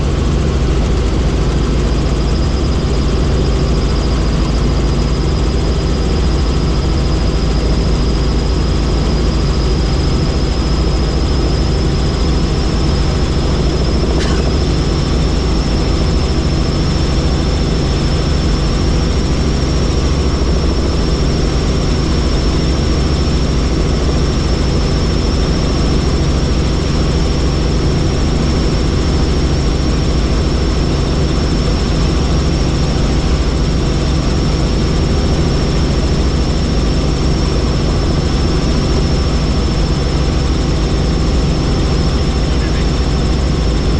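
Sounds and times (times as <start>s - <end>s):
helicopter engine and rotor: 0.0s - 43.9s.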